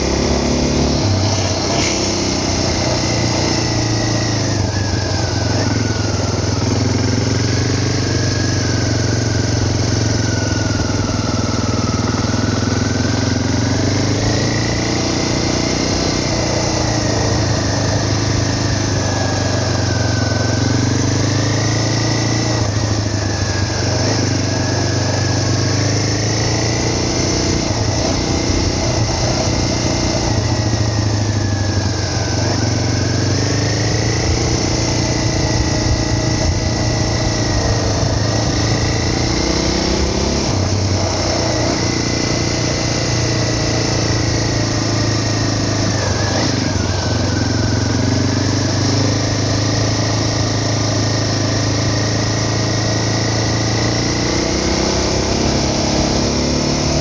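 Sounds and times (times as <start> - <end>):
steady low drone: 0.0 - 57.0
vehicle engine running: 0.0 - 57.0.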